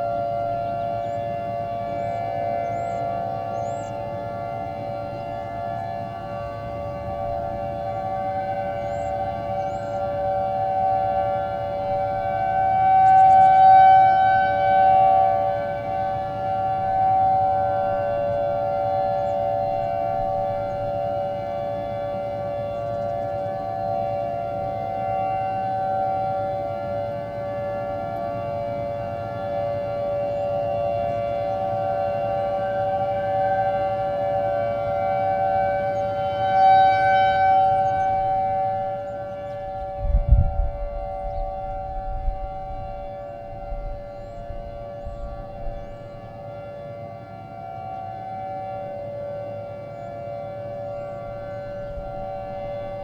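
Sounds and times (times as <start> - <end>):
warning siren steady tone: 0.0 - 53.0.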